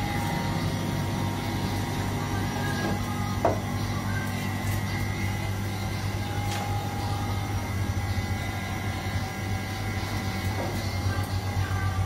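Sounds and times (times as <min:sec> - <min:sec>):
vending machine humming: 0:00.0 - 0:12.0.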